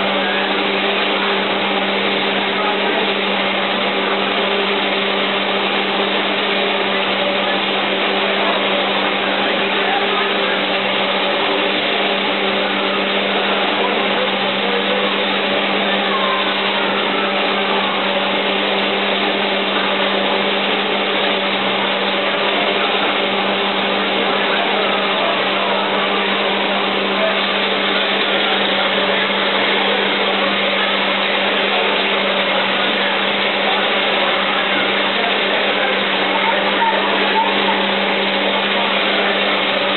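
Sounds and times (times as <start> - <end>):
faint voices: 0.0 - 39.9.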